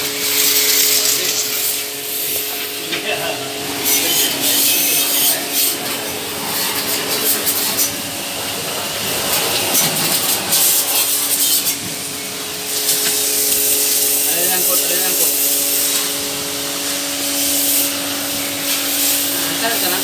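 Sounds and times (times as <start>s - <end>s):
pressure washer jet spraying: 0.0s - 20.0s
washer pump motor humming: 0.0s - 20.0s.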